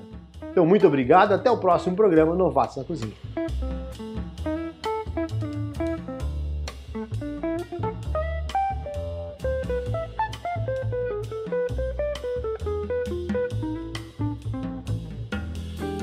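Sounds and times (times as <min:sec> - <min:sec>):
upbeat instrumental music: 0:00.0 - 0:16.0.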